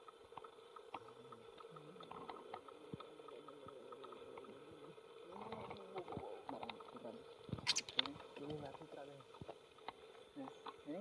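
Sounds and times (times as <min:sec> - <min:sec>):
faint steady hum: 0:00.0 - 0:11.0
faint murmuring voices: 0:01.0 - 0:11.0.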